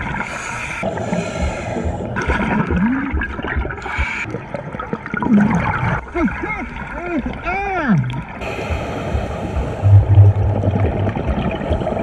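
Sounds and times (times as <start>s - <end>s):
underwater bubbles gurgling: 0.0s - 12.0s.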